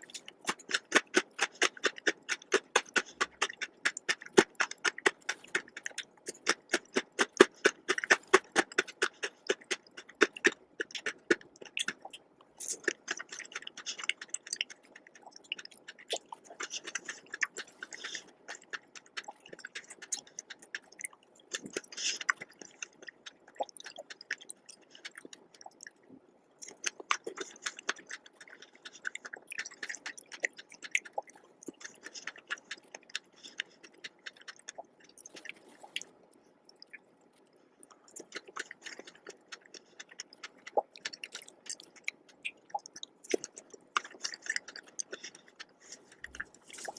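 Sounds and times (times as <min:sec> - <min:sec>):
close-miked chewing of dessert: 0:00.0 - 0:46.9.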